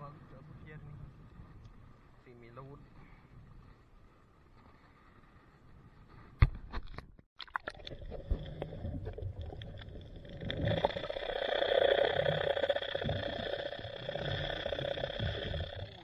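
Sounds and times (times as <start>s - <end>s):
underwater rumble and drone: 0.1s - 6.3s, 7.6s - 16.0s.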